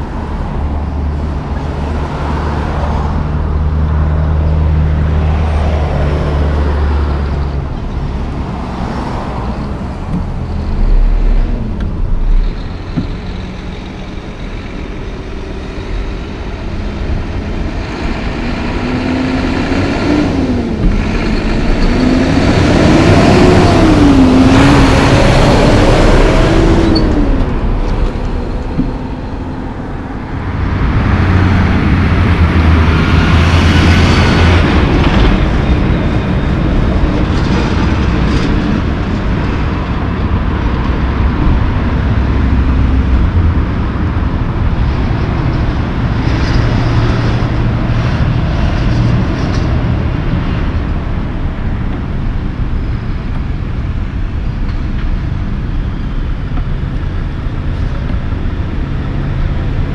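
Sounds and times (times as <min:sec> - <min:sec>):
heavy truck droning by: 0:00.0 - 0:59.9
road traffic: 0:00.0 - 0:59.9
truck diesel engine passing: 0:00.0 - 0:59.9.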